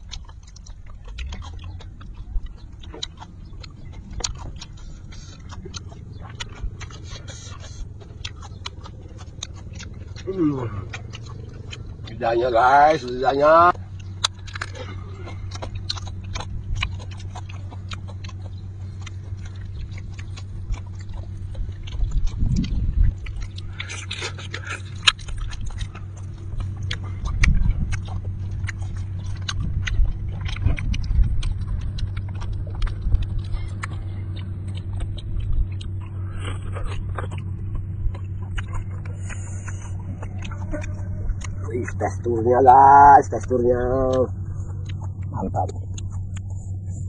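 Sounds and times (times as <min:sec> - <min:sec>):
chewing and lip-smacking: 0:00.0 - 0:47.0
low hum: 0:00.0 - 0:47.0.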